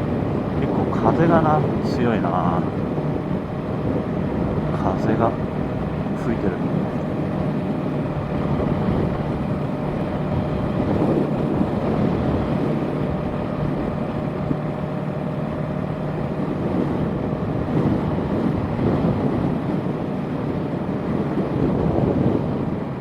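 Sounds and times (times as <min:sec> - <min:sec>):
motorcycle engine hum: 0:00.0 - 0:23.0
wind noise: 0:00.0 - 0:23.0.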